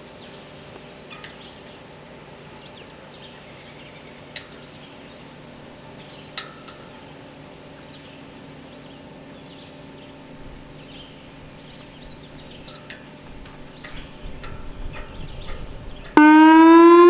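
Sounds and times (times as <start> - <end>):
low electrical hum: 0.0 - 17.0
small birds chirping: 0.1 - 16.2.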